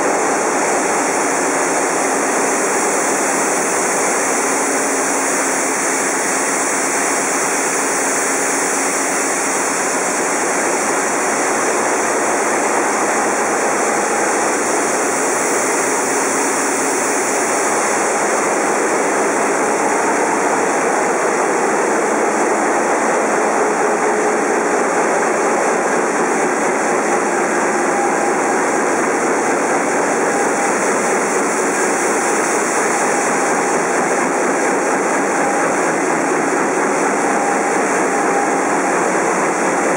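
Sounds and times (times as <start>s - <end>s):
marine diesel engines running: 0.0s - 39.9s.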